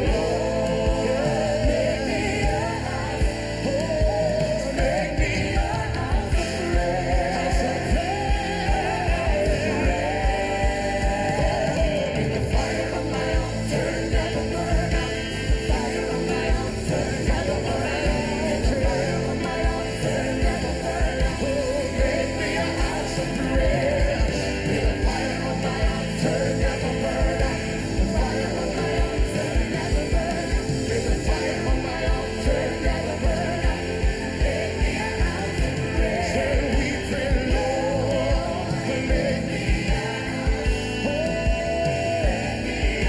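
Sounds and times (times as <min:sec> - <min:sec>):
voices singing: 0:00.0 - 0:43.0
worship band playing: 0:00.0 - 0:43.0.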